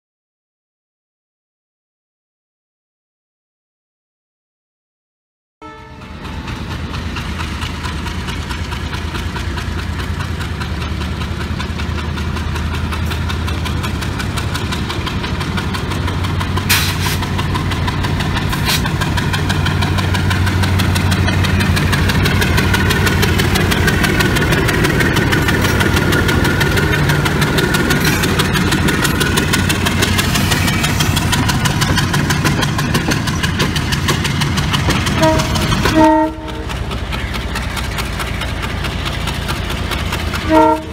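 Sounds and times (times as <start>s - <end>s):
locomotive engine droning: 5.7s - 40.9s.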